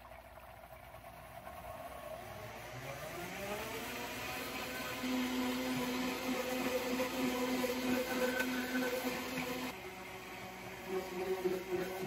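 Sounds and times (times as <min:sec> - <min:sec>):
blender motor running: 0:01.6 - 0:12.0.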